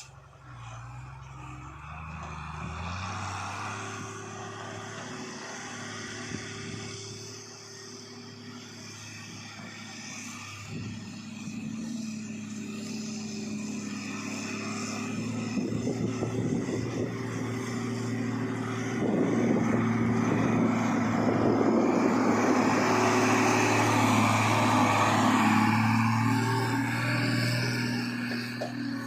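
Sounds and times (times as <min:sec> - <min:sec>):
diesel truck engine humming: 0:00.0 - 0:29.0.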